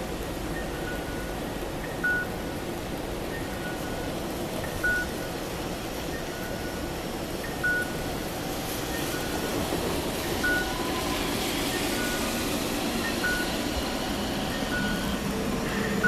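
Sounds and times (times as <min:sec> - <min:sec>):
tram pulling away: 0:00.0 - 0:16.0.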